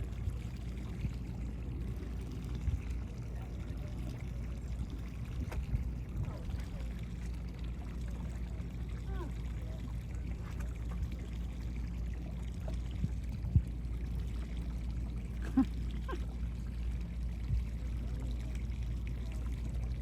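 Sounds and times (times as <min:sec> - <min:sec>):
steady low hum: 0:00.0 - 0:20.0
water lapping against boat hull: 0:00.0 - 0:20.0.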